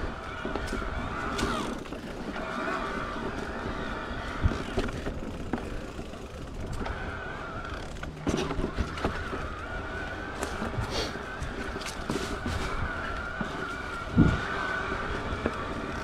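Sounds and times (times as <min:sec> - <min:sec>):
bike knocks and rattles: 0:00.0 - 0:16.0
electric bike motor whine: 0:00.0 - 0:16.0
tyres rumbling on dirt: 0:00.0 - 0:16.0.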